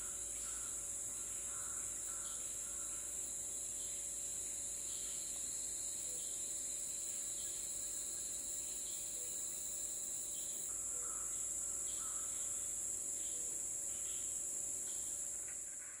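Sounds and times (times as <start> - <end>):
insects droning: 0.0 - 16.0
short insect calls: 0.0 - 16.0.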